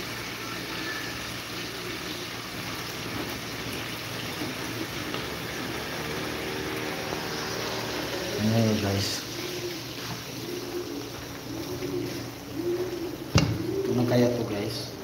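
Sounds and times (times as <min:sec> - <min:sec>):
pot sizzling on stove: 0:00.0 - 0:15.0.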